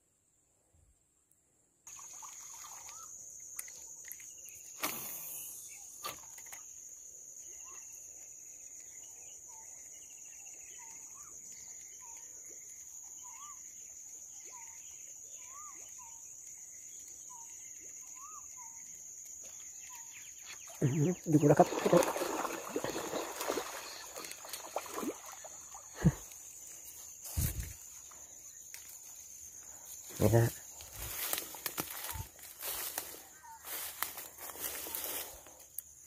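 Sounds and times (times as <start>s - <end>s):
faint chirping calls: 1.9s - 36.0s
high-pitched insect trill: 1.9s - 36.0s.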